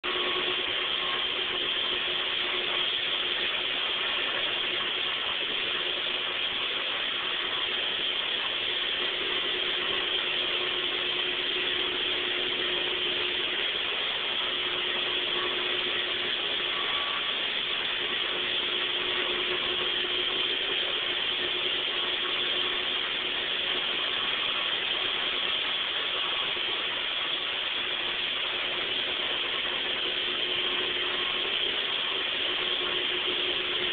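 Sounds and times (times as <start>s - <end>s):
floor buffing machine whirring: 0.0s - 33.9s.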